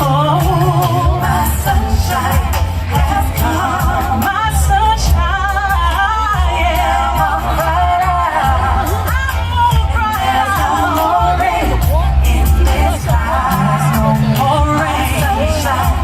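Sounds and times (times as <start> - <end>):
backing music with strong bass: 0.0 - 16.0
person singing with vibrato: 0.0 - 16.0.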